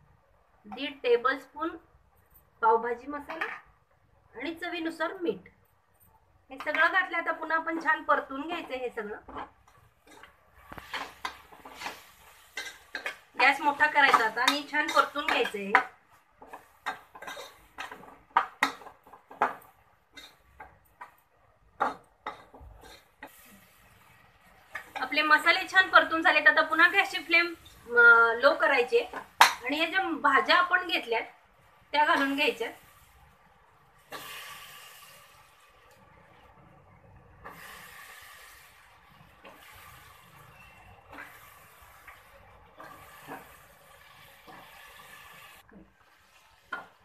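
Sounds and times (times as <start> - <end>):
vegetables sizzling in hot oil: 6.6 - 47.0.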